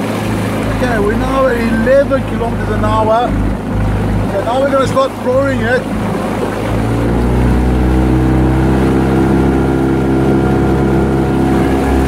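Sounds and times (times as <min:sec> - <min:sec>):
outboard motor at full throttle: 0:00.0 - 0:12.0.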